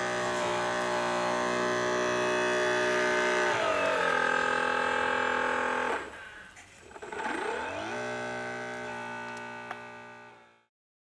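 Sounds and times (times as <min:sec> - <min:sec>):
droning instrumental music: 0:00.0 - 0:10.4.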